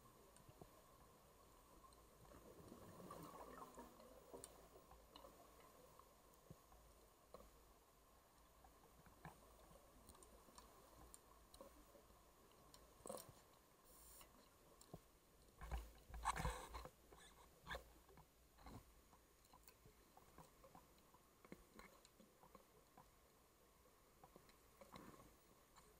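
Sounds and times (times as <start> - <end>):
underwater clicks and crackles: 0.0 - 25.9.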